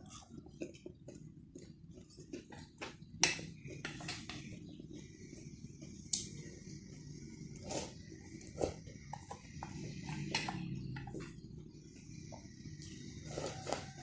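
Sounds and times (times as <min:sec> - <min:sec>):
chewing and crunching: 0:00.0 - 0:14.0.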